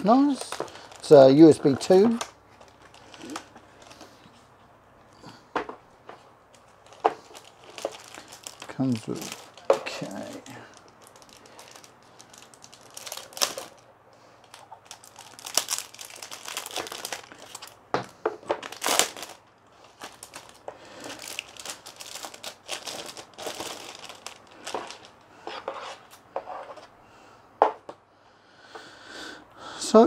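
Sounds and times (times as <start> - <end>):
packaging crinkling and rustling: 0.0 - 4.5, 6.1 - 26.1.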